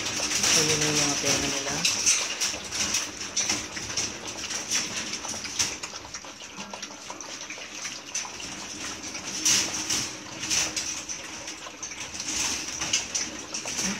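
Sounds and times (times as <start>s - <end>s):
puppies lapping milk: 0.0s - 13.9s.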